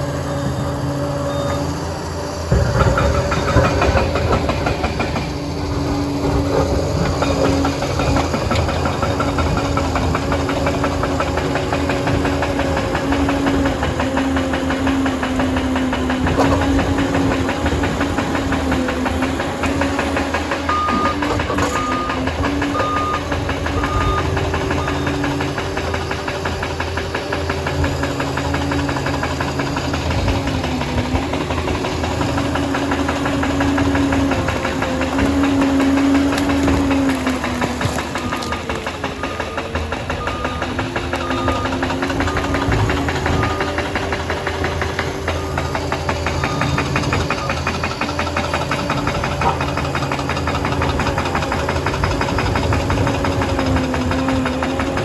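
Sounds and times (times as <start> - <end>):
dozer diesel engine running: 0.0 - 55.0
dense clatter: 2.3 - 55.0.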